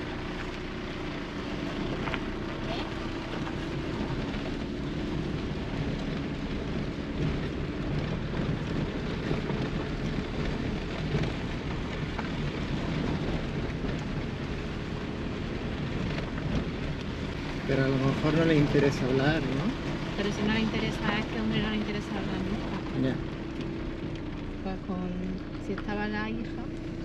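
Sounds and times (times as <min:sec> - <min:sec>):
car engine running low: 0:00.0 - 0:27.0
tyres rumbling on gravel: 0:00.0 - 0:27.0.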